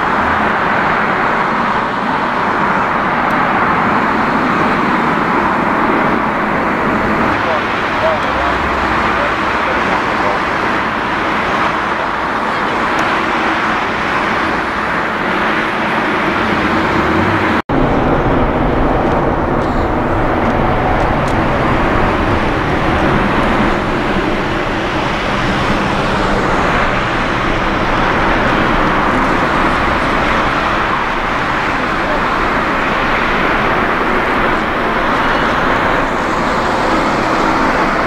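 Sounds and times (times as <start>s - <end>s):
jet engines rushing: 0.0s - 38.0s.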